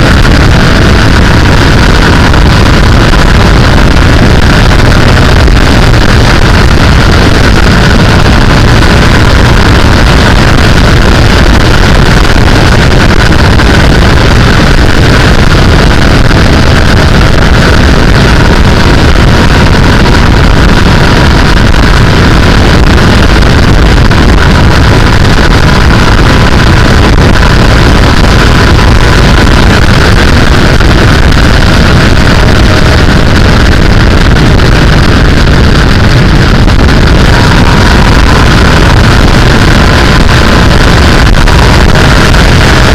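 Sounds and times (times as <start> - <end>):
motorcycle engine running: 0.0 - 42.9
wind rushing over microphone: 0.0 - 42.9.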